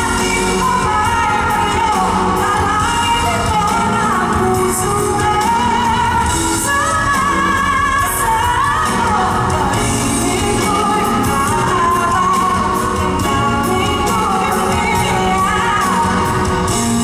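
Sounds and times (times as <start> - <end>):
drums: 0.0 - 17.0
keyboard: 0.0 - 17.0
woman singing with vibrato: 0.0 - 17.0.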